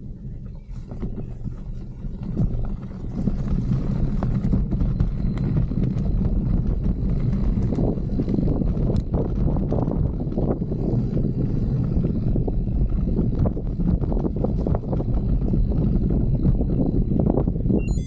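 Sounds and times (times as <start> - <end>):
bike tyres and frame rattling: 0.0 - 17.8
wind on microphone: 0.0 - 18.0.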